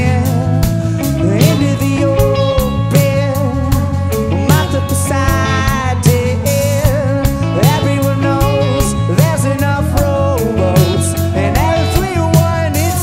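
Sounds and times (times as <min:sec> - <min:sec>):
electric bass: 0:00.0 - 0:13.0
electric guitar: 0:00.0 - 0:13.0
keyboard: 0:00.0 - 0:13.0
man singing: 0:00.0 - 0:13.0
steady beat: 0:00.6 - 0:13.0.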